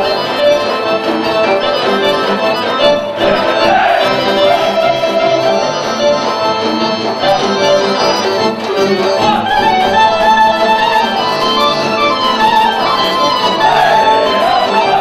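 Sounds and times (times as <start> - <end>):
accordion melody: 0.0 - 15.0
folk dance band: 0.0 - 15.0
violin melody: 0.0 - 15.0.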